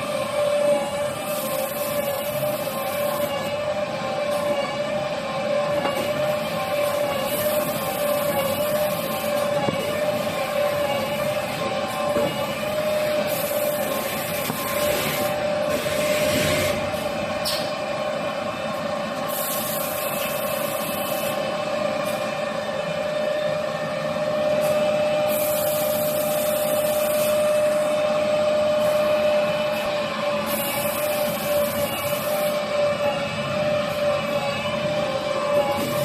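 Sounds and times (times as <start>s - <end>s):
cutting machine whine: 0.0s - 36.0s.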